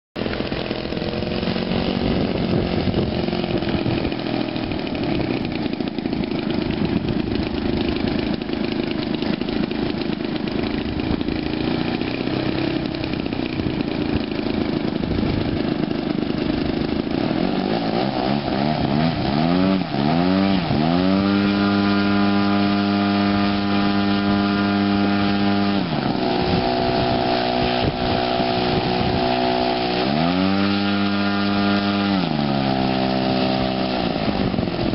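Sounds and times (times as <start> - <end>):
model airplane engine revving: 0.2 - 34.9.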